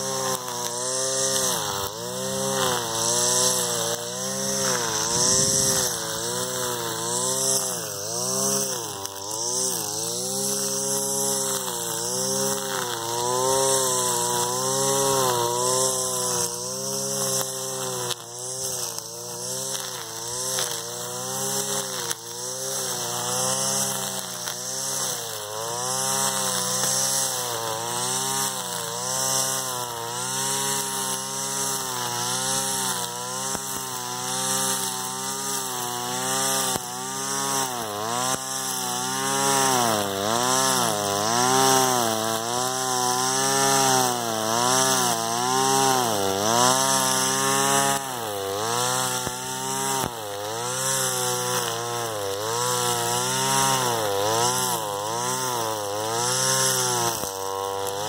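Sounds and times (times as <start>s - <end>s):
brush cutter cutting grass: 0.0s - 58.0s.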